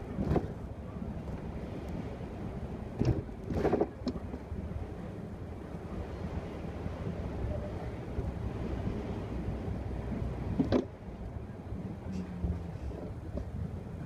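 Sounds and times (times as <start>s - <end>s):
bus engine rumble from inside: 0.0s - 14.0s.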